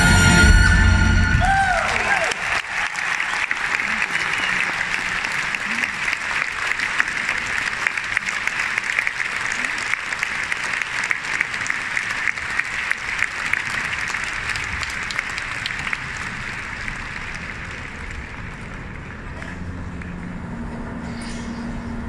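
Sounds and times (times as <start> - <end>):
audience clapping: 1.4 - 20.4.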